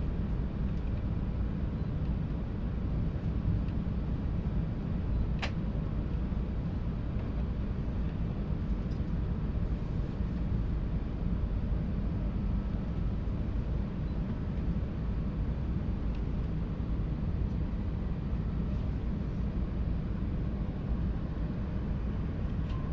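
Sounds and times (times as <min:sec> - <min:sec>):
train rumbling slowly on track: 0:00.0 - 0:22.9.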